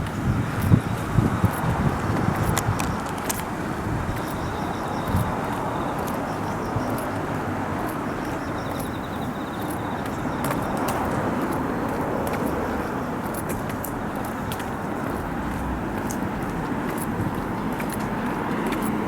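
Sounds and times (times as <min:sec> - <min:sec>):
passing cars rumbling: 0:00.0 - 0:19.0.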